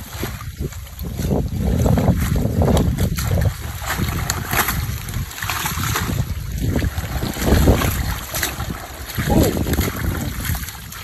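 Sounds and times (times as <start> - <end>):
weeds rustling and splashing in water: 0.0 - 11.0
wind rumble on microphone: 0.0 - 11.0.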